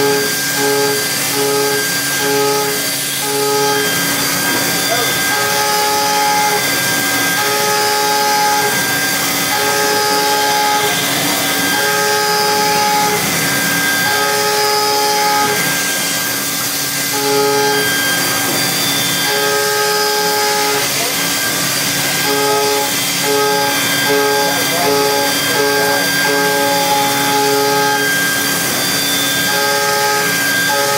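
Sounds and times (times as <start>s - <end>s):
milling machine hiss: 0.0s - 30.9s
milling machine whining tones: 0.0s - 30.9s.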